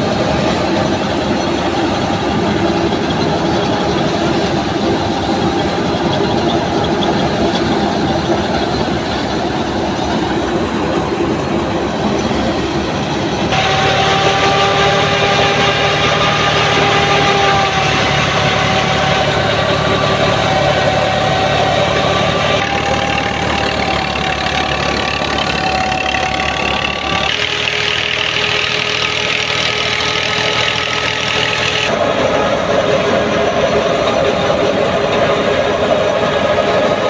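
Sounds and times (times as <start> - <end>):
threshing machinery whine: 0.0 - 37.0
tractor diesel engine rumble: 0.0 - 37.0.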